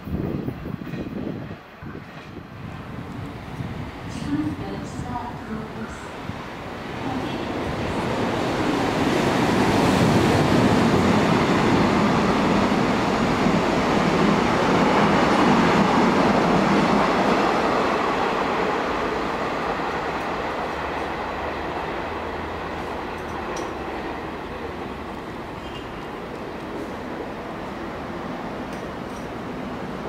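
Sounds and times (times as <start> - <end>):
train passing on rails: 0.0 - 30.0.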